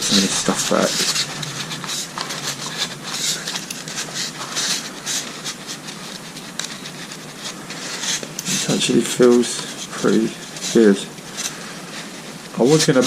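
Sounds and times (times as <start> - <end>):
cloth rag rubbing: 0.0 - 13.0.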